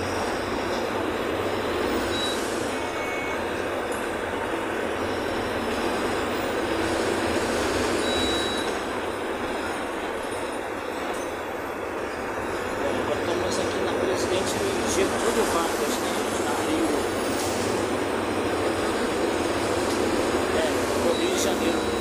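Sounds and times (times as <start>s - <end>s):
bus body rattling: 0.0s - 22.0s
bus engine rumble: 0.0s - 22.0s
road noise: 0.0s - 22.0s.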